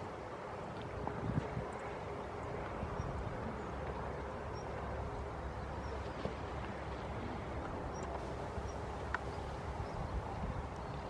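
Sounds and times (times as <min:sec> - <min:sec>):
low rumble and hiss: 0:00.0 - 0:11.0.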